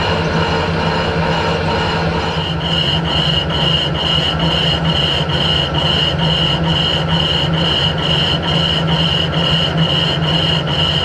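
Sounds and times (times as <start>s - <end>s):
lathe machine hum: 0.0s - 11.0s.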